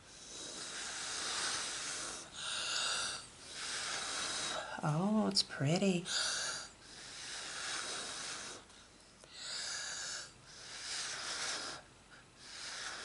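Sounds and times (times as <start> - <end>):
breath puffs blowing: 0.0 - 4.8, 6.1 - 8.7, 9.3 - 13.0.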